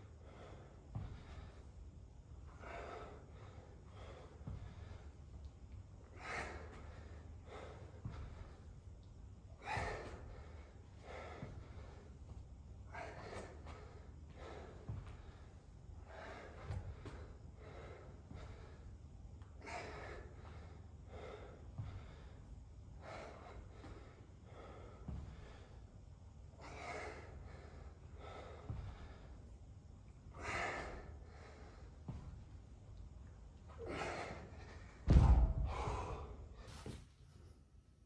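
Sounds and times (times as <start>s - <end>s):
man breathing hard: 0.0s - 37.1s.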